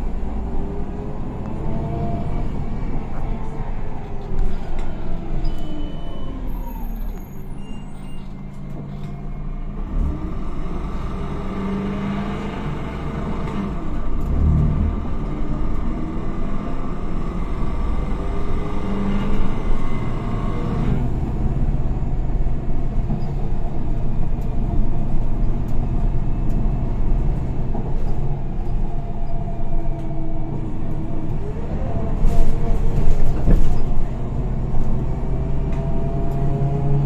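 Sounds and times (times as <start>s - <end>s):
bus engine rumble: 0.0s - 37.0s.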